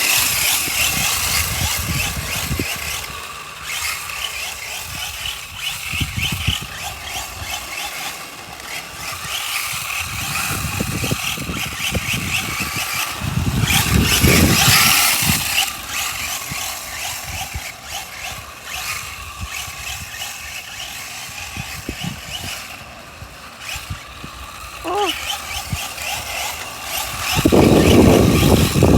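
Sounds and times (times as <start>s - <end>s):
electric motor running: 0.0s - 28.9s
tires skidding on ground: 0.0s - 28.9s.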